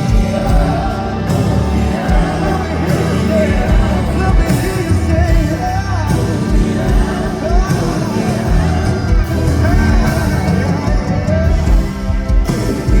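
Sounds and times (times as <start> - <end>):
person singing wordless melody: 0.0 - 13.0
sustained bass: 0.0 - 13.0.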